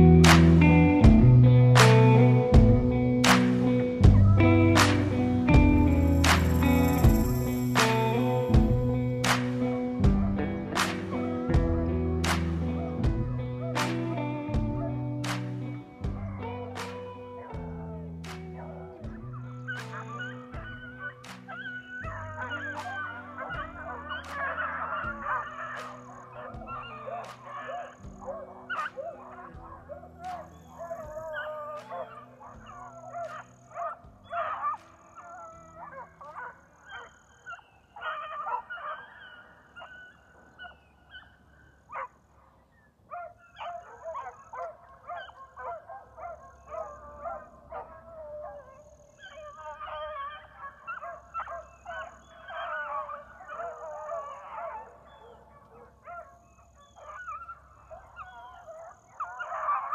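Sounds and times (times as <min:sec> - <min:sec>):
dogs barking and howling: 0:00.0 - 0:59.9.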